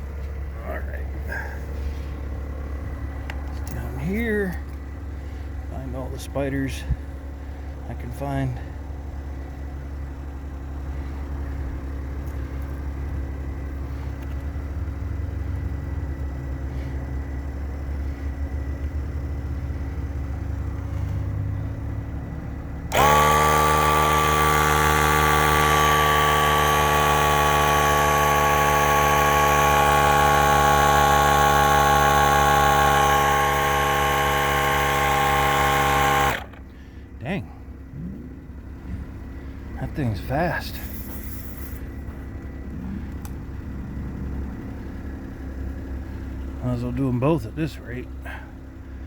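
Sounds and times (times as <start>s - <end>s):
air compressor whining: 0.0s - 49.0s
car engine idling: 0.0s - 49.0s.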